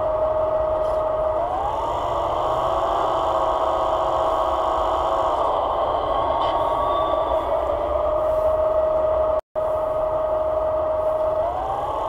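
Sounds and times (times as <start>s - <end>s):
hydraulic pump whining: 0.0s - 9.4s, 10.0s - 12.0s.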